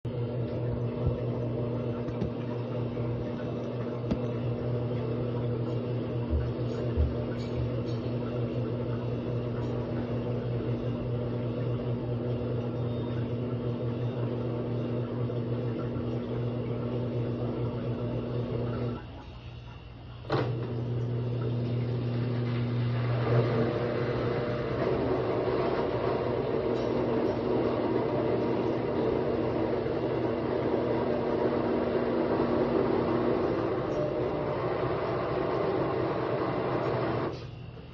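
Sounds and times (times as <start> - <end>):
washer-dryer spinning hum: 0.0 - 37.9.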